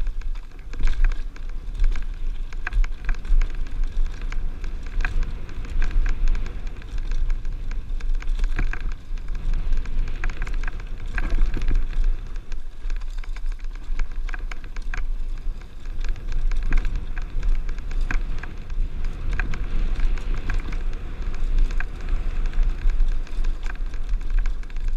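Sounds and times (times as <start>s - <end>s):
bike clicks and rattles: 0.0s - 24.9s
wind rumbling on microphone: 0.0s - 24.9s.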